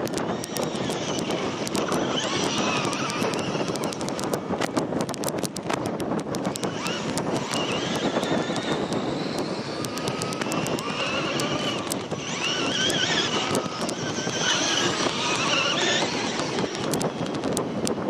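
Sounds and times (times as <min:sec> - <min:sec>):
rc truck motor whine: 0:00.0 - 0:18.0
steady rush of noise: 0:00.0 - 0:18.0.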